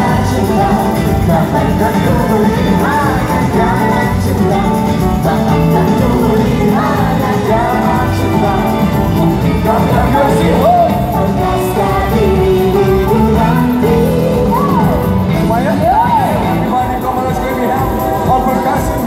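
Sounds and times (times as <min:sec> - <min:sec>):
music with singing voice: 0:00.0 - 0:19.0.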